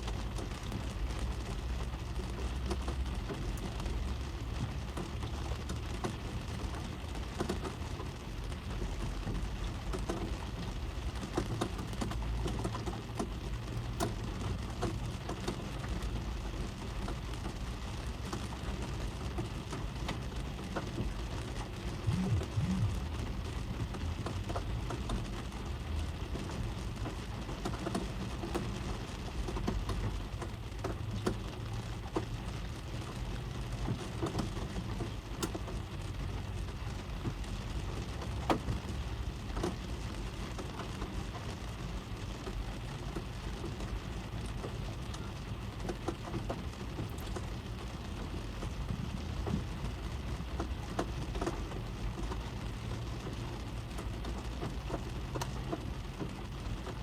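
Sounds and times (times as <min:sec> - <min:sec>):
rain pattering on a car: 0:00.0 - 0:57.0.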